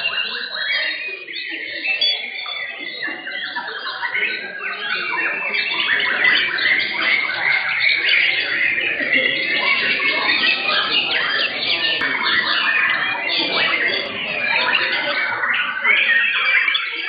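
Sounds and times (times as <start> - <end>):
birds singing in chorus: 0.0 - 17.0.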